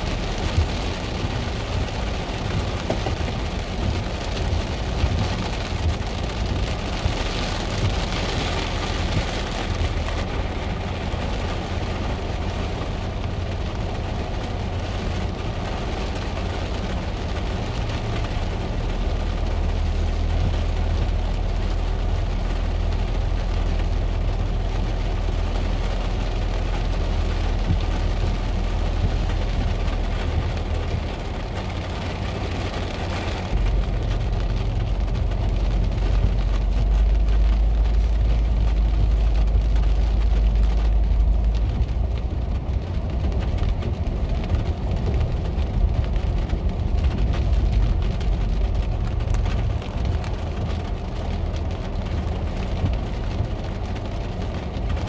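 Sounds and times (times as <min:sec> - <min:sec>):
car rumbling on dirt road: 0:00.0 - 0:55.0
rain on a car roof: 0:00.0 - 0:55.0.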